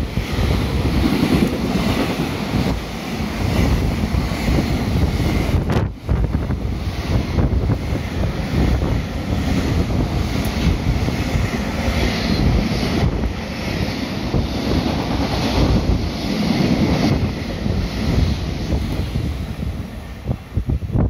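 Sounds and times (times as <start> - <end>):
train wheels rumbling on rail: 0.0 - 21.0
wind buffeting microphone: 0.0 - 21.0.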